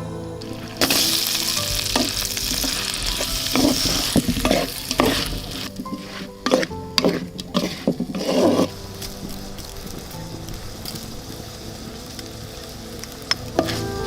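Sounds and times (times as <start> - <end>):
utensil scraping a pan: 0.5 - 11.8
food sizzling in hot oil: 0.5 - 14.0.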